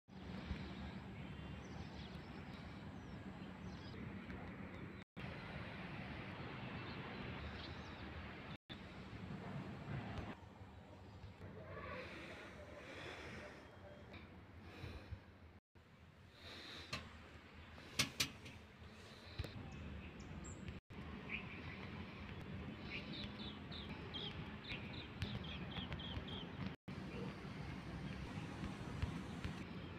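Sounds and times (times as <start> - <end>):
outdoor background noise: 0.1 - 29.9.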